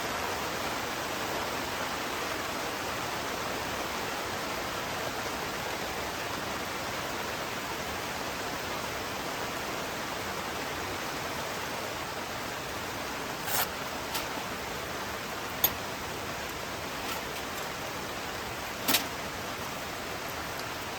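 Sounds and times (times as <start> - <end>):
heavy rain hiss: 0.0 - 20.9.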